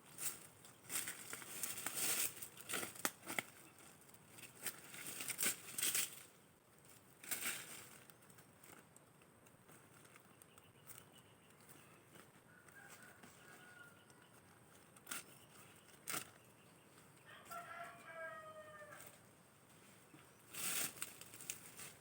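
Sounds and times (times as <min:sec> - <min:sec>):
crinkling and rustling handling: 0:00.0 - 0:22.0.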